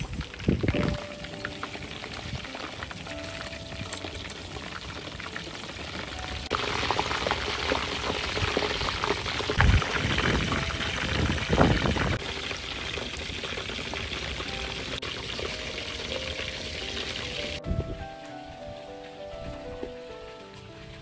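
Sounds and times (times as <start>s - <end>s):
meat deep-frying in oil: 0.0s - 17.7s.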